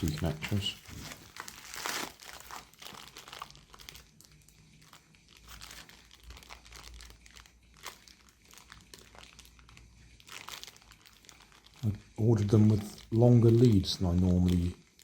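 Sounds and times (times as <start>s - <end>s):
packaging crinkling and rustling: 0.0s - 15.0s
small crackles and clicks: 1.4s - 15.0s.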